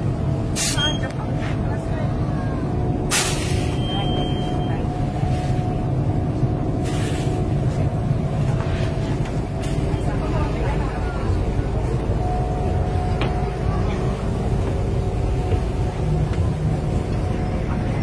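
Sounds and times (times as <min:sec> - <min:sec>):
bus engine rumble: 0:00.0 - 0:18.0
thin steady whine: 0:00.0 - 0:18.0.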